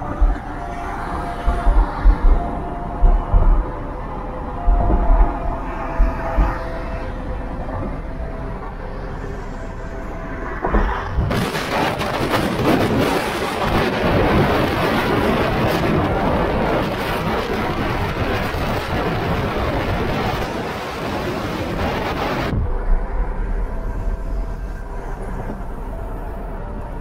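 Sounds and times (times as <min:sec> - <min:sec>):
car road and engine rumble: 0:00.0 - 0:27.0
wind buffeting microphone: 0:00.0 - 0:27.0.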